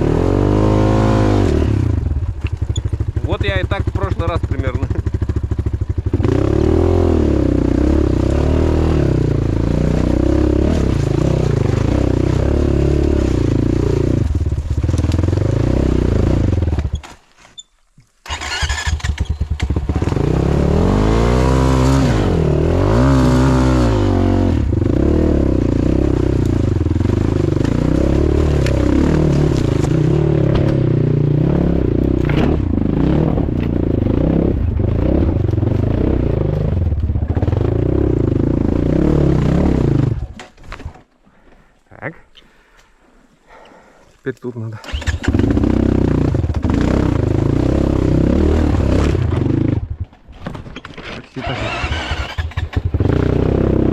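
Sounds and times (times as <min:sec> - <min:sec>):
motorcycle engine revving: 0:00.0 - 0:17.1, 0:18.2 - 0:40.6, 0:44.8 - 0:50.0, 0:51.4 - 0:53.9.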